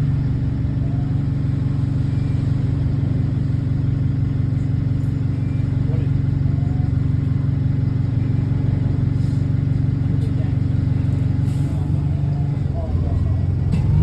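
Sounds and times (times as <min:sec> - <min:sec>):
bus engine with pulsing hum: 0:00.0 - 0:14.0.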